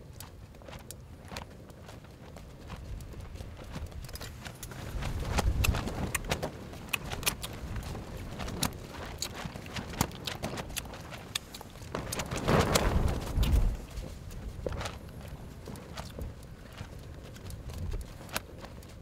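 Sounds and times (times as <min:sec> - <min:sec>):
low rustling rumble: 0:02.6 - 0:18.9.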